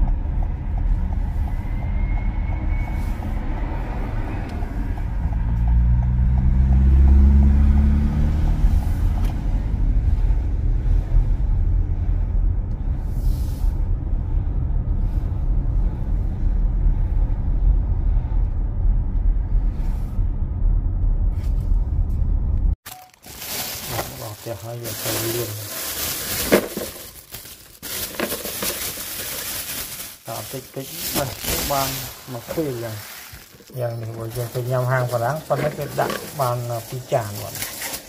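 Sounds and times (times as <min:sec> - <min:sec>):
car engine: 0:00.0 - 0:38.0
road rumble: 0:00.0 - 0:38.0.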